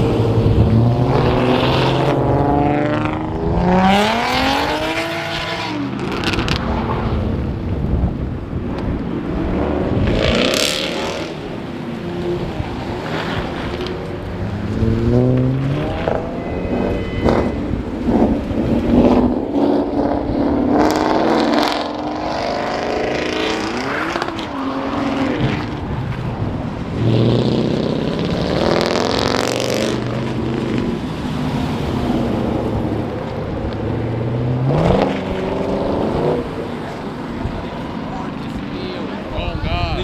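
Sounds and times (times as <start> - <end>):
car engines revving: 0.0 - 40.0
crowd noise: 0.0 - 40.0
steady traffic: 0.0 - 40.0.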